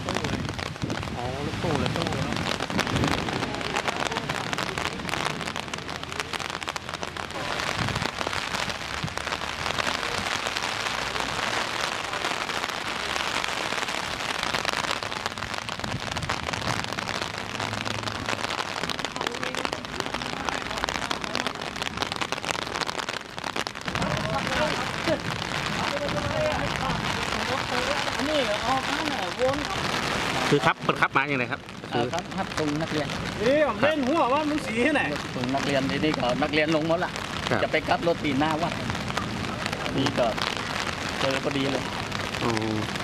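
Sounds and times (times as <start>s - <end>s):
rain pattering: 0.0s - 43.0s.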